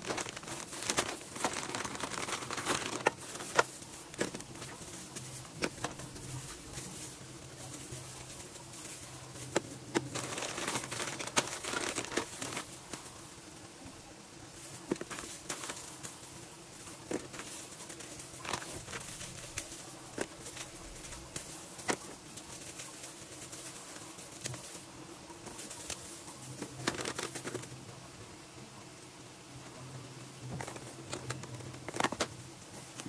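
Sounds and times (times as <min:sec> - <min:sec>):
plastic bag crinkling: 0:00.0 - 0:13.3, 0:14.6 - 0:27.8, 0:30.4 - 0:33.0
sharp crackles: 0:00.0 - 0:13.6, 0:14.4 - 0:28.0.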